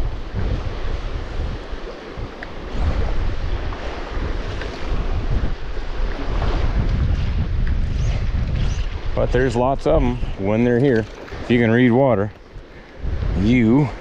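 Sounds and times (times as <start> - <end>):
shallow stream rushing: 0.0 - 14.0
wind buffeting microphone: 0.0 - 14.0.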